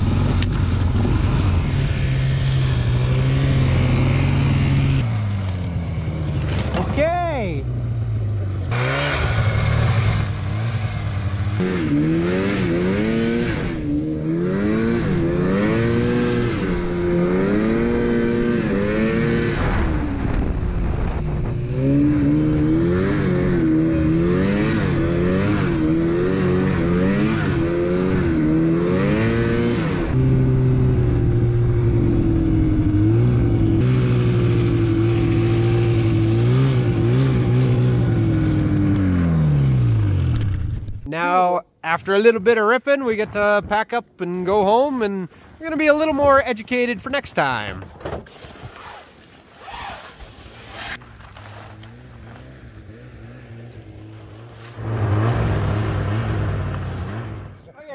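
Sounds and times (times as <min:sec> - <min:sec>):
snowmobile engine revving: 0:00.0 - 0:40.5, 0:49.6 - 0:57.9.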